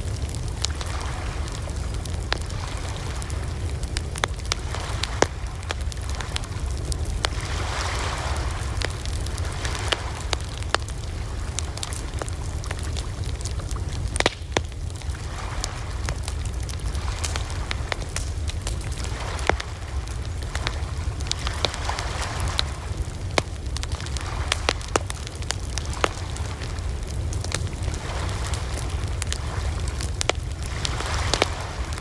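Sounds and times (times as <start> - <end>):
campfire crackling and popping: 0.0 - 32.0
low rumble of burning: 0.0 - 32.0.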